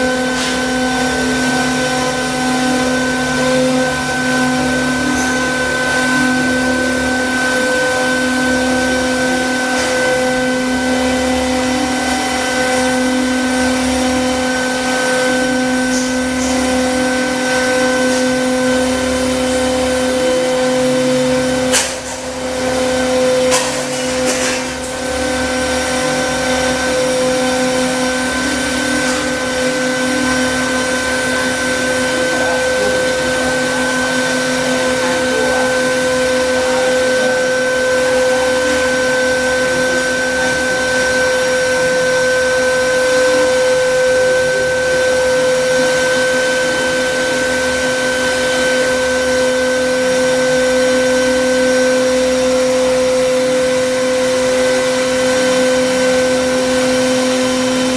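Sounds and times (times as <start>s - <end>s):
fan noise: 0.0s - 57.9s
router spindle whine: 0.0s - 57.9s.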